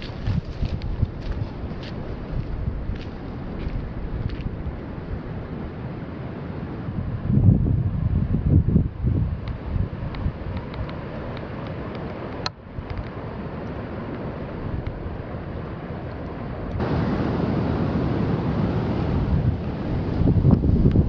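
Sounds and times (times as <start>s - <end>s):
wind buffeting microphone: 0.0s - 13.3s, 16.1s - 21.0s.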